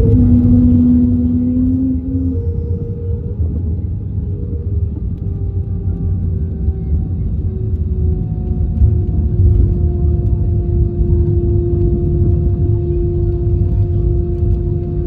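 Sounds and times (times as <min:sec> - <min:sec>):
airplane cabin rumble: 0:00.0 - 0:15.0
jet engine tones sliding lower: 0:00.0 - 0:15.0.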